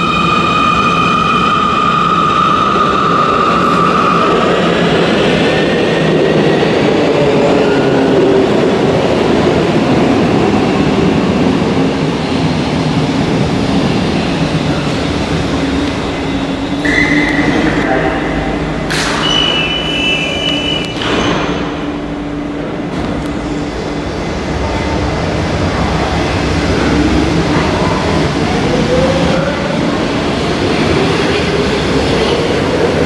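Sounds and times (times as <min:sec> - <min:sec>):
metro train drive whine: 0:00.0 - 0:33.0
metro train rumbling: 0:00.0 - 0:33.0.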